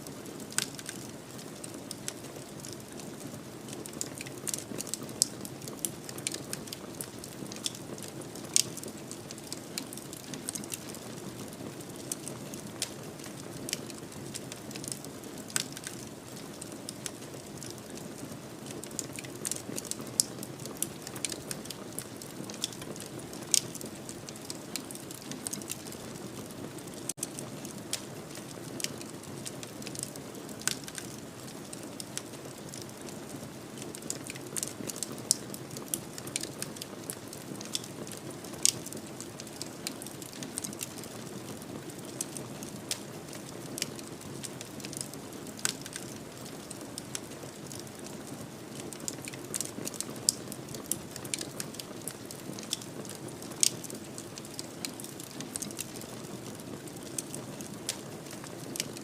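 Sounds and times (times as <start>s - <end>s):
soft hiss of fire: 0.0s - 59.0s
wood fire crackling and popping: 0.0s - 59.0s.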